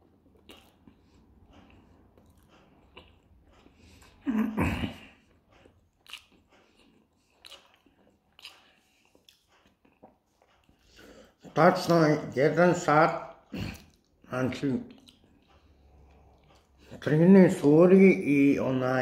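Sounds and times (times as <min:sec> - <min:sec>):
man chewing food: 0:00.0 - 0:17.8.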